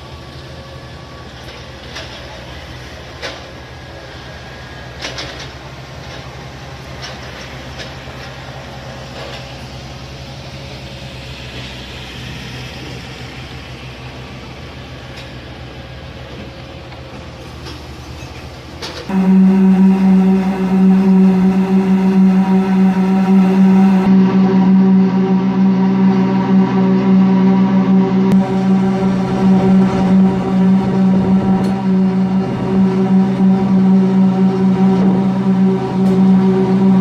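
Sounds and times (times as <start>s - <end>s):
heavy machine engine droning: 0.0s - 37.0s.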